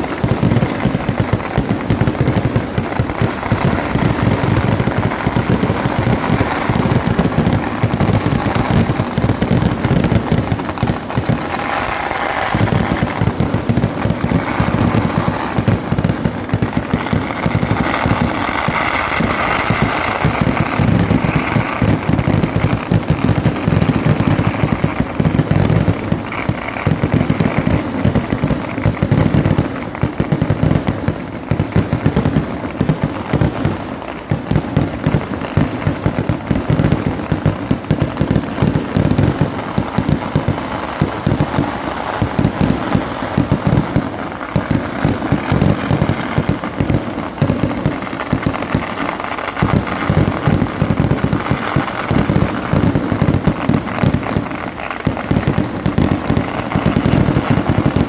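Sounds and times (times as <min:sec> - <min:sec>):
firecracker blasts: 0:00.0 - 0:58.0.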